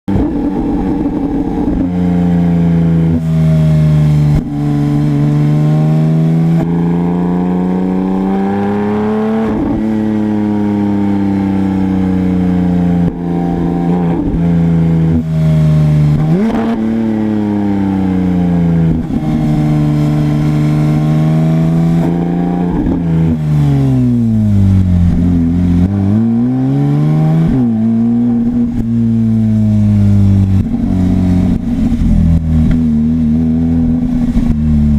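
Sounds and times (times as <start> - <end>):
car engine accelerating and shifting: 0.1 - 34.9.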